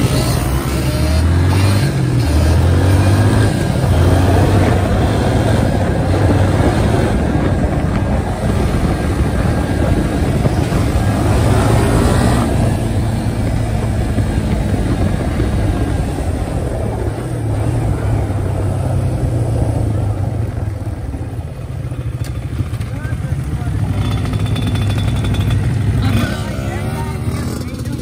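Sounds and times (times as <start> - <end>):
wind noise: 0.0 - 23.1
atv engine running: 0.0 - 28.0
tyres on gravel road: 0.0 - 28.0.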